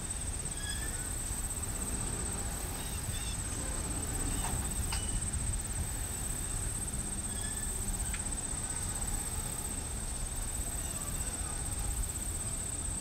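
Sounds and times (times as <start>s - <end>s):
freight cars rumbling past: 0.0s - 13.0s
insect trill: 0.0s - 13.0s.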